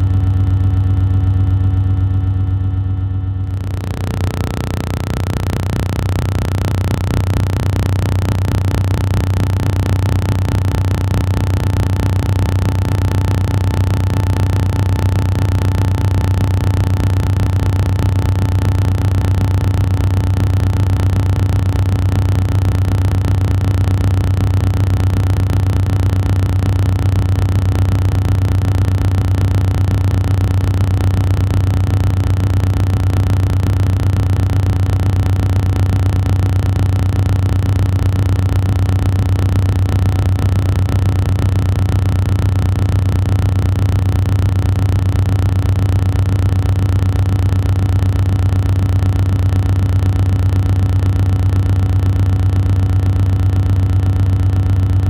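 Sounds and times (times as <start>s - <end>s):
loud low-pitched hum: 0.0s - 55.0s.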